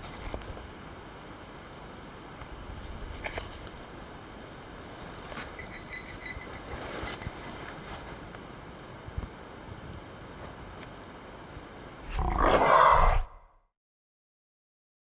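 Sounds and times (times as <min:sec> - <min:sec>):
crickets chirring: 0:00.0 - 0:13.5.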